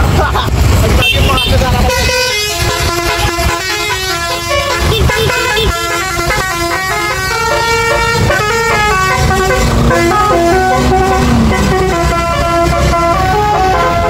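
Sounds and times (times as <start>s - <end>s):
engine and traffic rumble: 0.0s - 14.0s
bus horn playing a melody: 1.0s - 14.0s.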